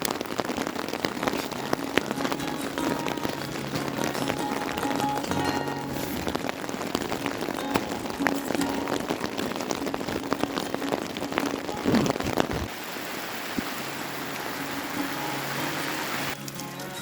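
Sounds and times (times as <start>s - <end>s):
raindrops tapping on a surface: 0.0s - 17.0s
steady hiss of rain: 0.0s - 17.0s.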